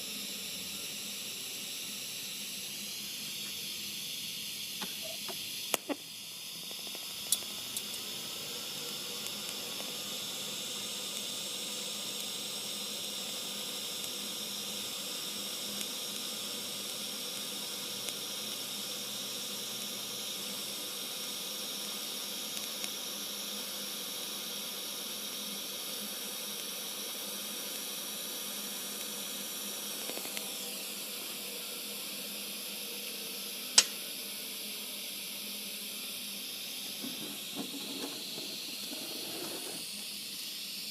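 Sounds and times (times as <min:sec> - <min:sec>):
welding arc hissing: 0:00.0 - 0:40.9.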